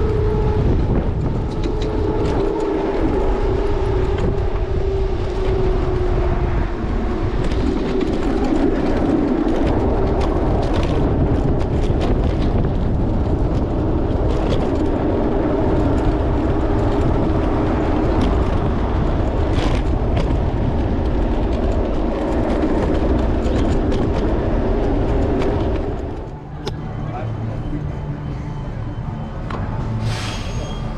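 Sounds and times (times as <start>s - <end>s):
scooter motor hum: 0.0s - 26.8s
road and wind rumble: 0.0s - 30.9s.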